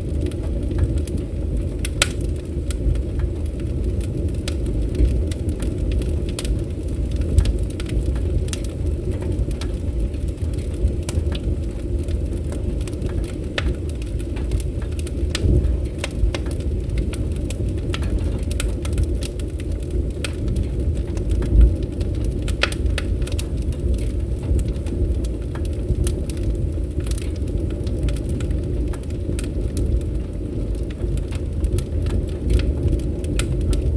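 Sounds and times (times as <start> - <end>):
campfire crackling and popping: 0.0 - 33.9
steady low rumble: 0.0 - 33.9.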